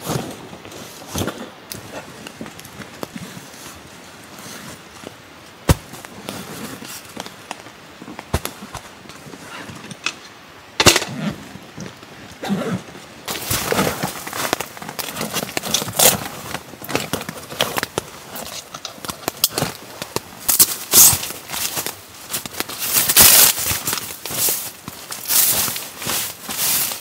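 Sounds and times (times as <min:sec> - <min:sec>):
rustling of nylon backpack: 0:00.0 - 0:09.9, 0:11.1 - 0:27.0.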